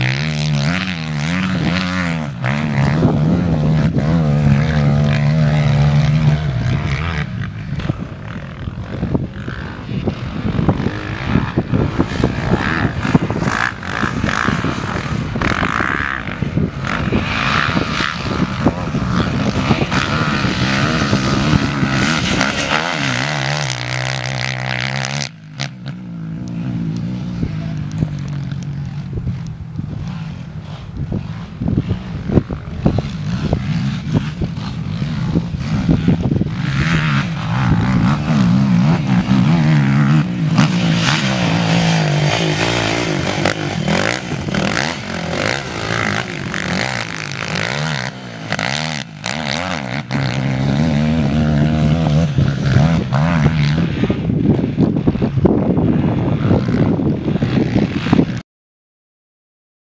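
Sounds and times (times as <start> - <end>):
quad engine revving: 0.0 - 58.4.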